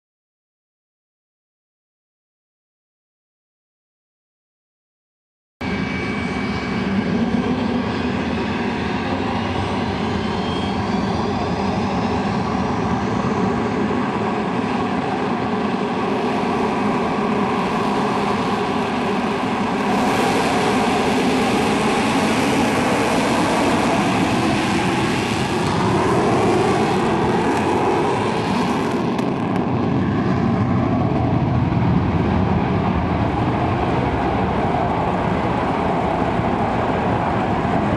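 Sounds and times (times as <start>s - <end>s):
jet engines whining: 5.6s - 37.9s.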